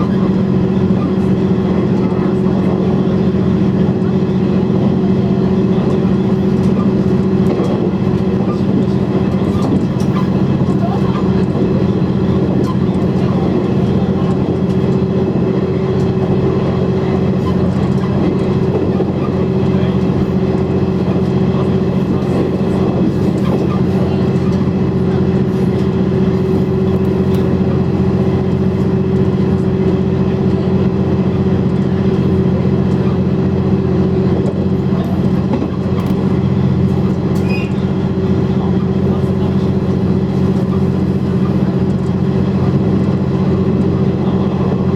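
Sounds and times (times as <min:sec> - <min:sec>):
diesel engine droning: 0:00.0 - 0:44.9
train rumbling on rails: 0:00.0 - 0:44.9.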